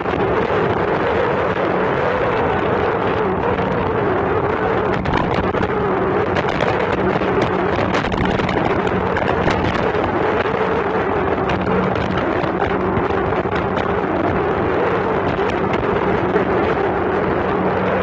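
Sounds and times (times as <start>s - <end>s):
motorboat engine running: 0.0s - 18.0s
wind buffeting microphone: 0.0s - 18.0s.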